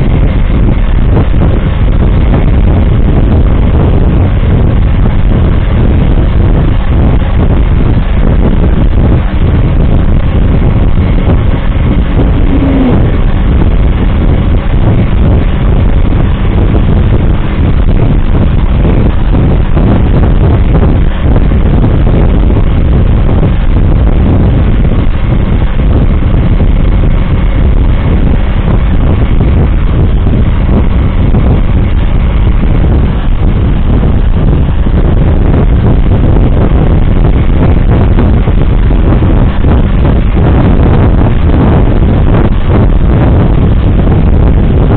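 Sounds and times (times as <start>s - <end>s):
vehicle engine and road noise: 0.0s - 44.9s.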